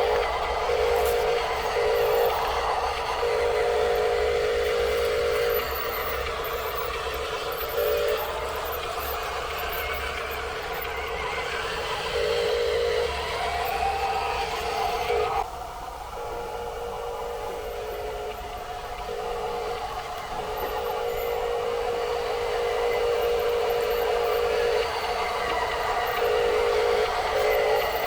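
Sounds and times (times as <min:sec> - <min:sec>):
toy electric motors whirring: 0:00.0 - 0:15.5, 0:16.2 - 0:28.0
motor whine: 0:00.0 - 0:28.0.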